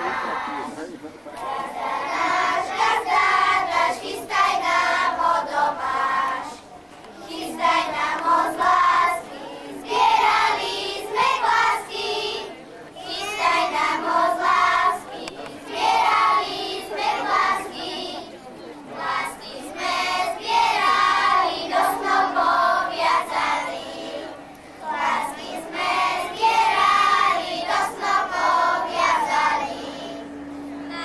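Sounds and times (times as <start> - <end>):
children singing folk song: 0.0 - 31.0.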